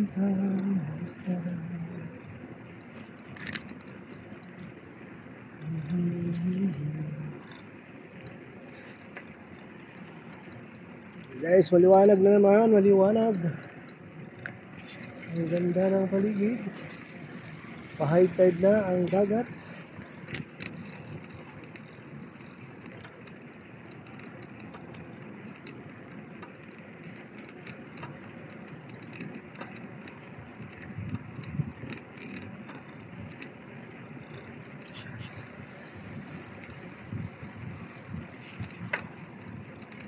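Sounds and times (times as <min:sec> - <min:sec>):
bicycle tyres rumbling on road: 0:00.0 - 0:40.0
bike rattles and clicks: 0:00.0 - 0:40.0.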